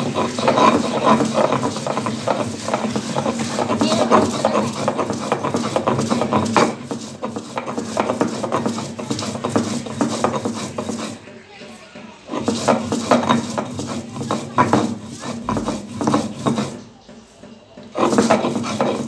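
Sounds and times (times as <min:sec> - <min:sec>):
stone roller gritty scraping: 0:00.0 - 0:19.0.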